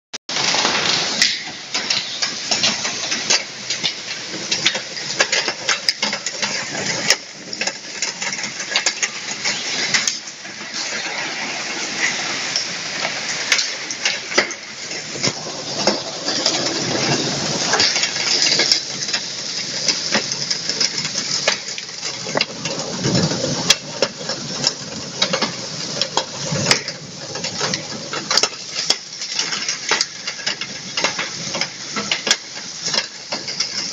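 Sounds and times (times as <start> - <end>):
hailstones clicking on hard surfaces: 0.3 - 33.9
heavy rain downpour: 0.3 - 33.9.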